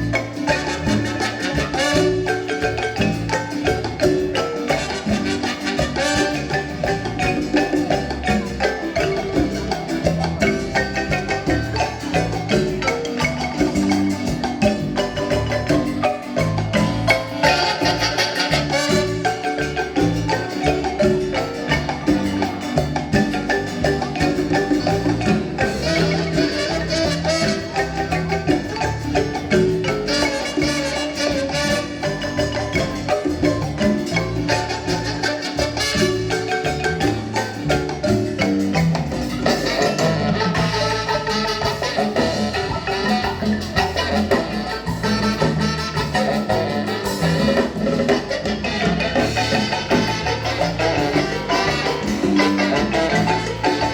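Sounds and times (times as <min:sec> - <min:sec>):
marimba playing lively tune: 0:00.0 - 0:53.9.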